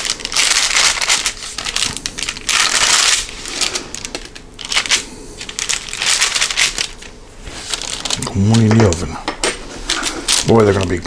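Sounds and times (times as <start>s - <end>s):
parchment paper crinkling: 0.0s - 9.1s, 9.8s - 11.0s.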